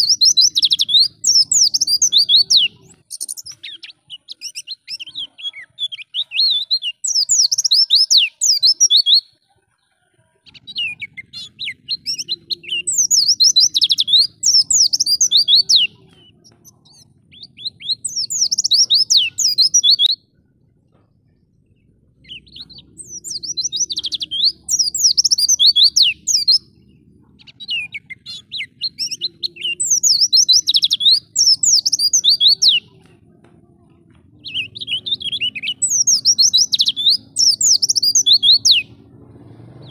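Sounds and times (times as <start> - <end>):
bird high twittering song: 0.0 - 33.2, 34.0 - 39.9.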